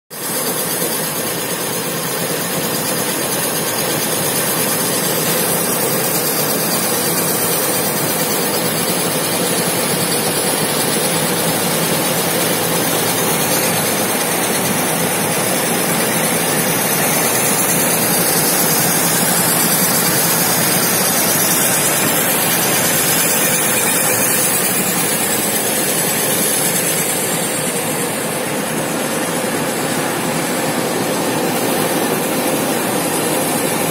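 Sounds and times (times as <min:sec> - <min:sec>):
lamination machine droning: 0:00.2 - 0:33.9.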